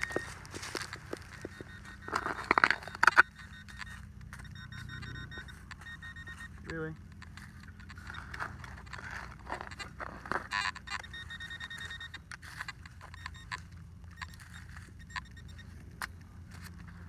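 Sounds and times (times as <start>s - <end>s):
digging clicks and scrapes: 0.0s - 17.0s
metal detector beeps: 0.0s - 17.0s.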